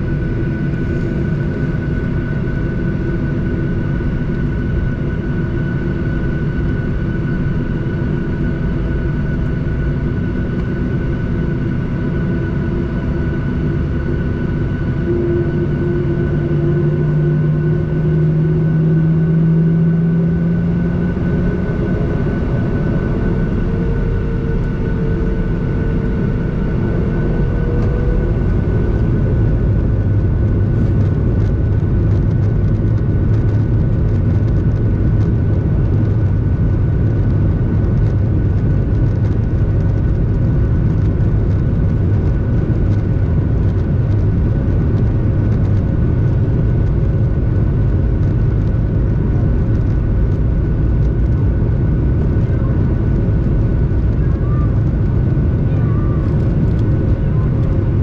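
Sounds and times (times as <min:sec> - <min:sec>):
airplane cabin engine drone: 0:00.0 - 0:58.0
deeper engine tone rising in pitch: 0:00.0 - 0:58.0.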